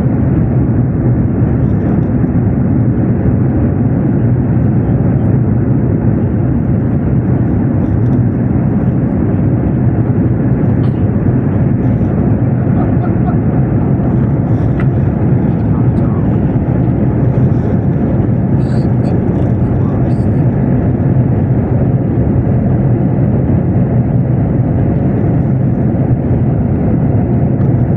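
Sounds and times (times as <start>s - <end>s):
airliner cabin engine roar: 0.0s - 27.9s.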